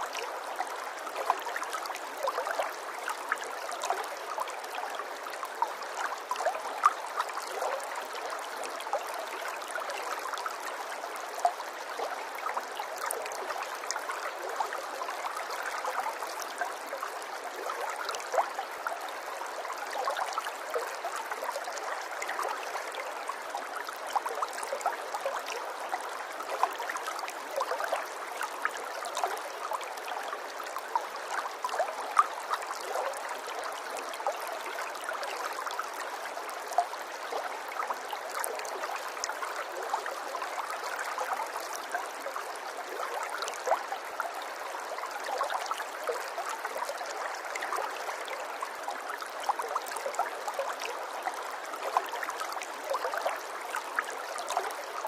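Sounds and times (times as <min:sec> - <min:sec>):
small stream babbling: 0:00.0 - 0:55.0.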